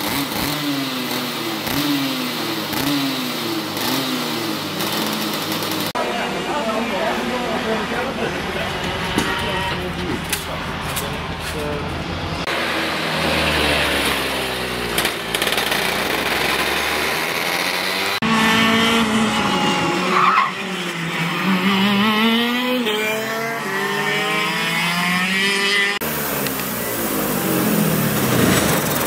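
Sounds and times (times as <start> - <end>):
kart engines revving: 0.0 - 29.0.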